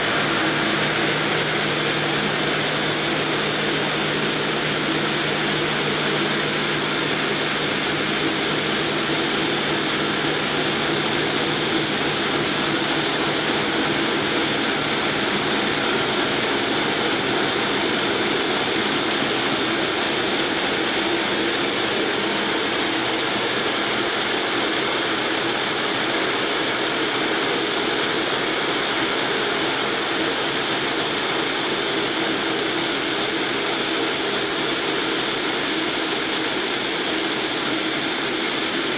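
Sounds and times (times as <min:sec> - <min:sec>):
circular saws cutting granite: 0:00.0 - 0:38.9.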